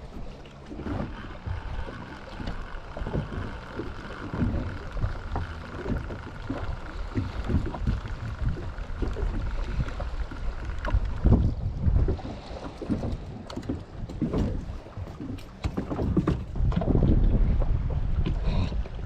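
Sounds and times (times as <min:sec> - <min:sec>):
small waves slapping boat hull: 0:00.0 - 0:19.0
wind buffeting microphone: 0:00.8 - 0:19.0.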